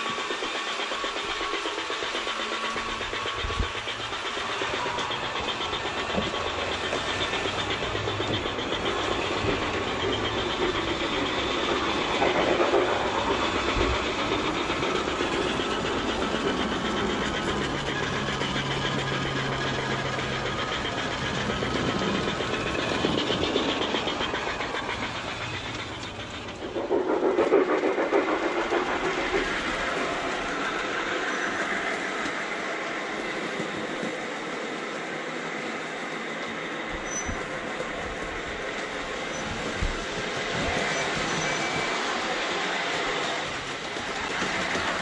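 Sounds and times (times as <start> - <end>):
model train wheels rolling on rails: 0.0 - 45.0
steam chuffing and hiss: 0.0 - 45.0.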